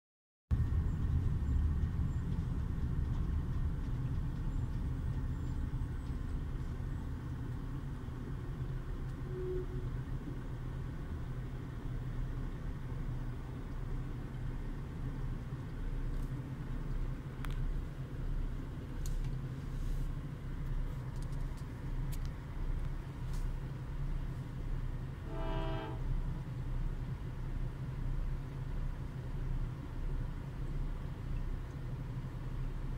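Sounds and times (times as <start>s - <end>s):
car engine rumble: 0.5s - 32.9s
road noise: 0.5s - 32.9s.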